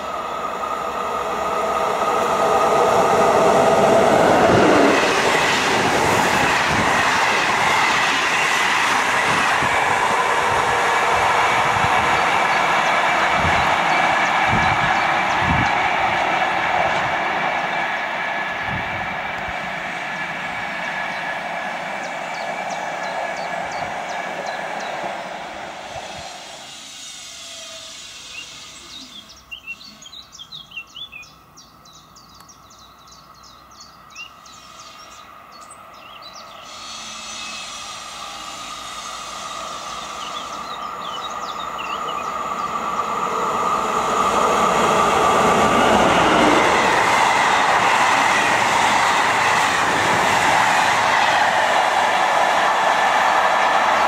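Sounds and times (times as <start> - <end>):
train wheels on rails: 0.0 - 31.3, 32.5 - 54.0.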